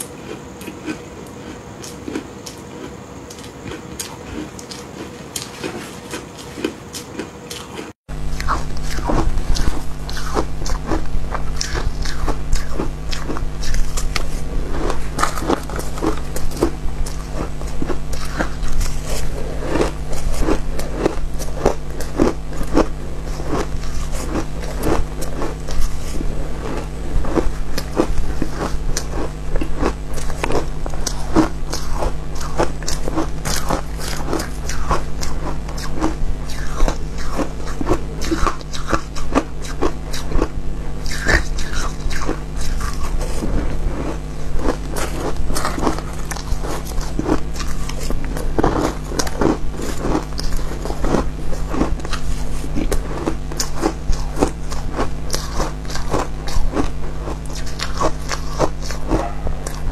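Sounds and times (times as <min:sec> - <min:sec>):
crunching and chewing ice: 0:00.0 - 0:59.9.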